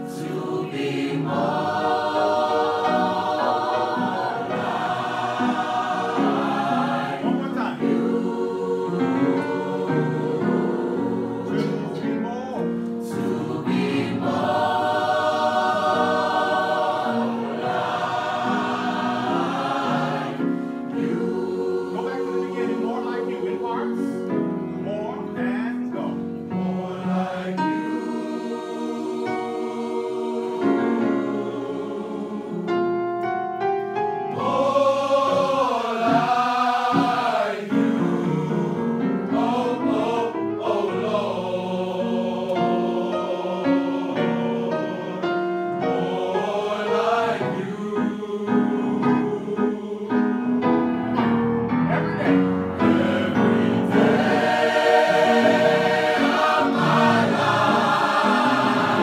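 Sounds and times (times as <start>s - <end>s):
choir singing gospel harmony: 0.0s - 59.0s
piano accompaniment: 0.0s - 59.0s.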